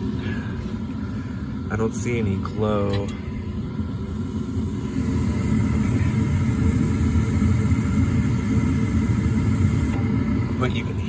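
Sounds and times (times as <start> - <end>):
faint steady hum: 0.0 - 11.0
gas rushing from burner: 0.0 - 11.0.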